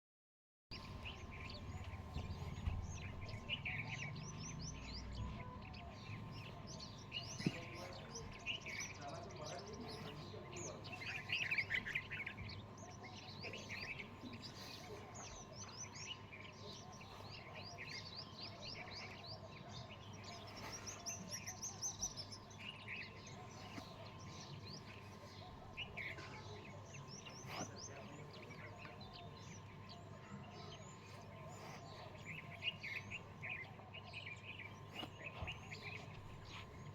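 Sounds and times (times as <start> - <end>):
small birds chirping: 0.7 - 36.9.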